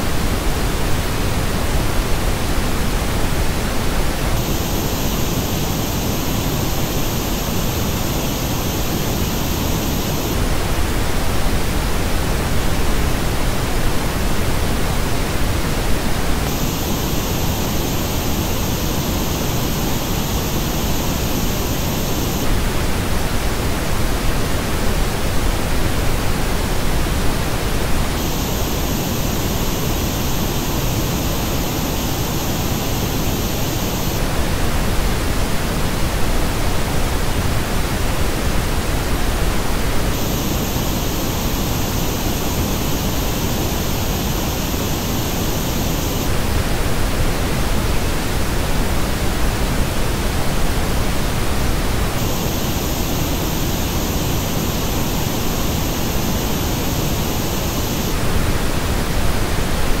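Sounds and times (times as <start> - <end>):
pink noise test signal: 0.0 - 60.0.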